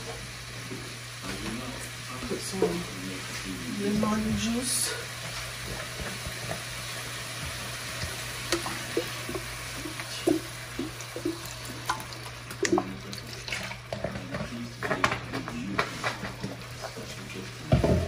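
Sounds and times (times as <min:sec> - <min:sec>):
shrimp sizzling in butter: 0:00.0 - 0:18.0.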